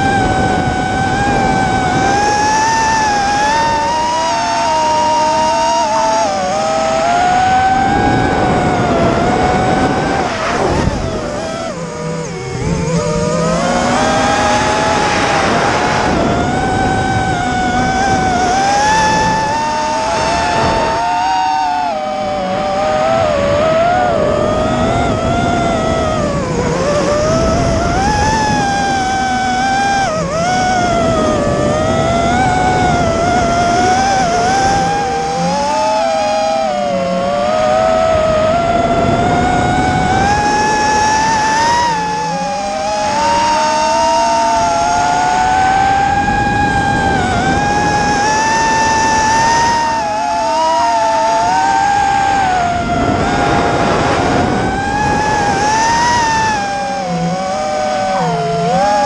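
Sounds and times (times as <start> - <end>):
model aircraft motors whining: 0.0 - 59.0.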